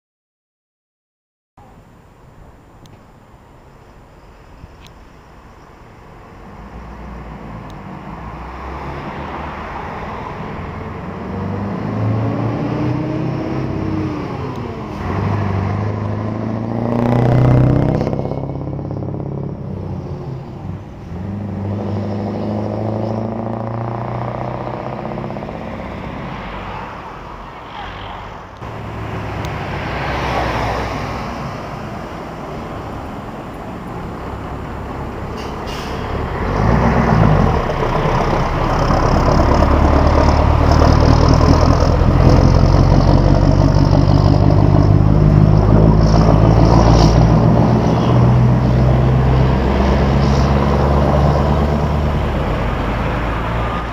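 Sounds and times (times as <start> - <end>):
truck diesel engines passing: 1.6 - 53.9.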